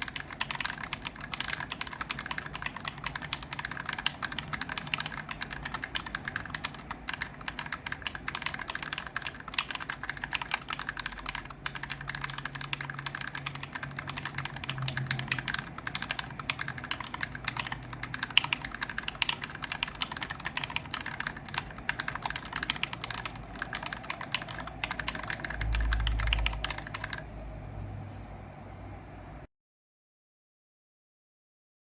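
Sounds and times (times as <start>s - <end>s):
fast keyboard typing: 0.0s - 27.3s.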